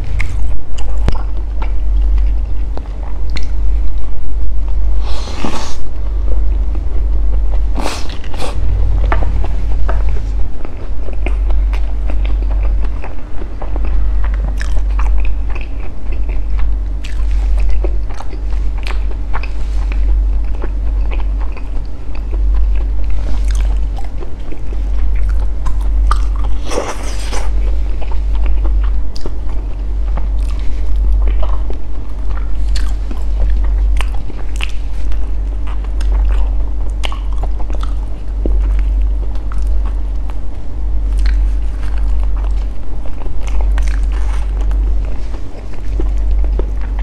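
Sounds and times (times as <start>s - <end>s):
wet chewing and lip smacking: 0.0s - 4.0s, 7.3s - 47.0s
steady low hum: 0.0s - 47.0s.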